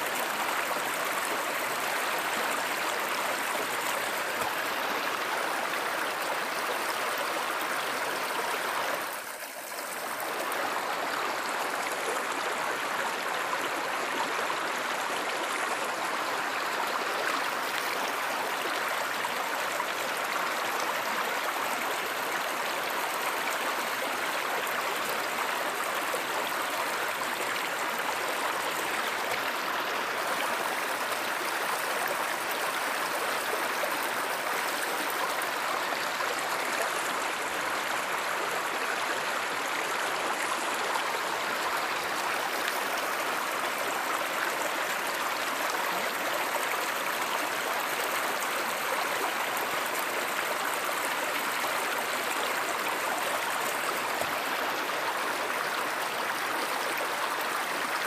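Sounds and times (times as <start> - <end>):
flowing stream rushing: 0.0 - 58.0.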